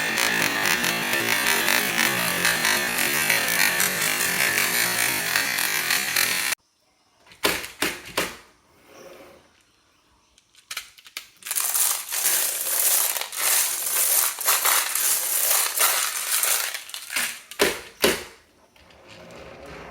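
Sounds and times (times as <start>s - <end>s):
toy vehicles rattling down wooden track: 0.0s - 6.6s, 10.4s - 19.9s.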